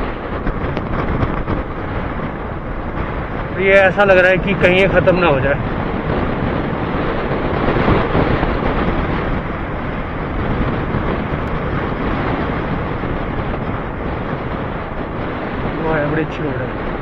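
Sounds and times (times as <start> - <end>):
motorcycle engine running: 0.0 - 16.0
wind rush on microphone: 0.0 - 17.0.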